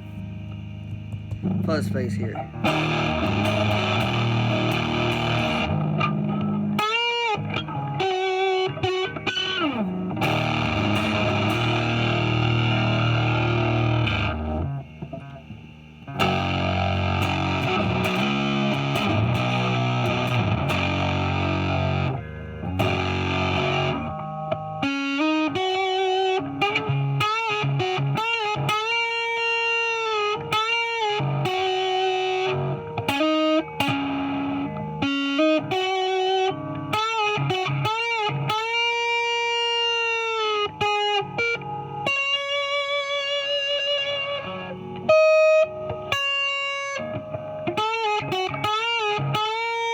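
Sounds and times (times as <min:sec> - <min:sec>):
electric guitar lead with bends: 0:00.0 - 0:49.9
fuzzed electric guitar chords: 0:00.0 - 0:49.9.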